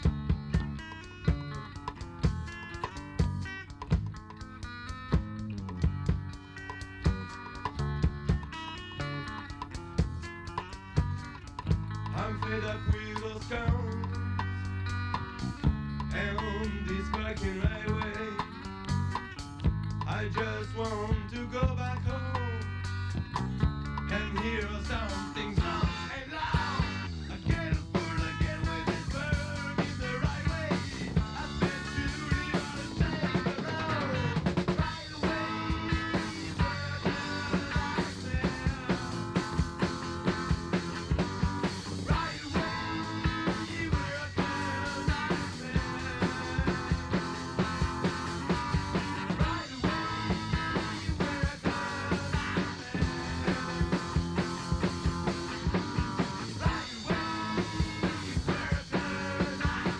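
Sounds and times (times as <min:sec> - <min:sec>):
pitch-gliding guitar lines: 0:00.0 - 0:59.9
rock band playing: 0:00.0 - 0:59.9.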